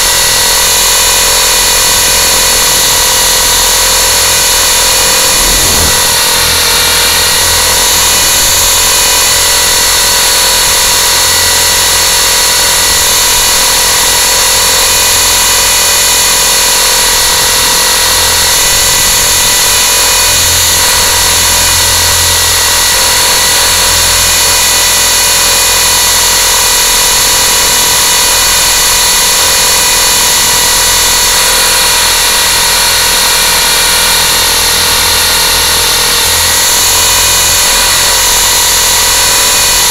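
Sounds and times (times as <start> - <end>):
drone rotors whining: 0.0 - 39.9.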